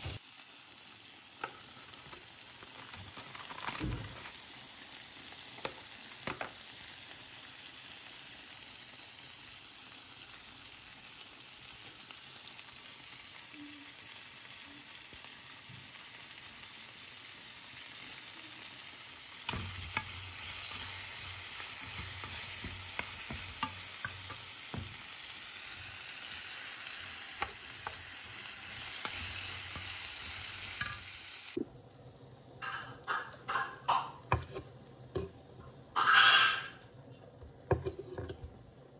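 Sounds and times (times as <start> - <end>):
liver sizzling in oil: 0.0 - 31.6.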